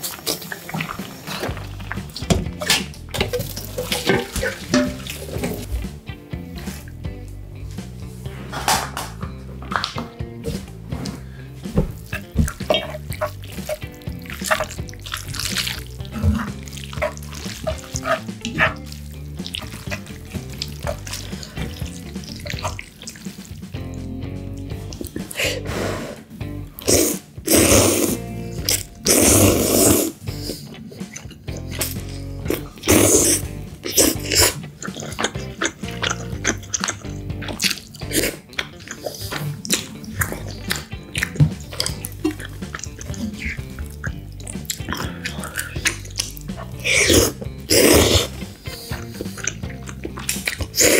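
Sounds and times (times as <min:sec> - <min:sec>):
chopsticks stirring sticky spaghetti: 0:00.0 - 0:05.8, 0:09.7 - 0:25.6, 0:27.0 - 0:50.9
wet chewing mouth sounds: 0:00.0 - 0:07.1, 0:09.6 - 0:50.9.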